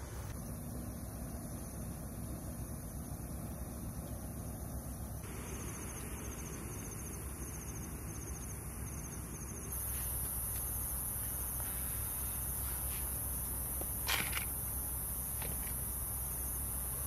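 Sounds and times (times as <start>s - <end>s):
high insect hum: 0.0s - 17.0s
insects chirping: 0.0s - 17.0s.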